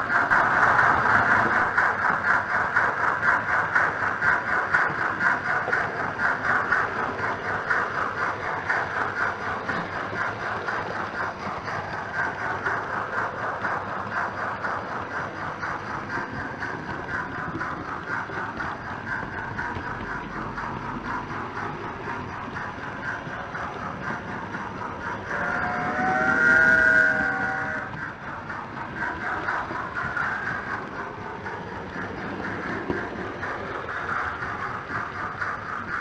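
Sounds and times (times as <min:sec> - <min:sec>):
steam locomotive chuffs through speaker: 0:00.0 - 0:36.0.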